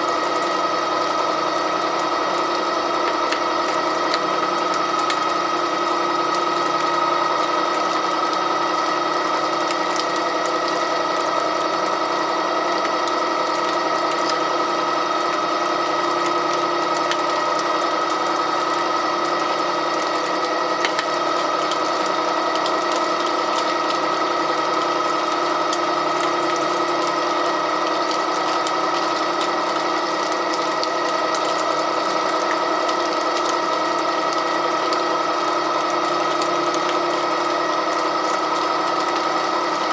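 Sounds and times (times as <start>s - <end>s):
pipe threading machine whine: 0.0s - 39.9s.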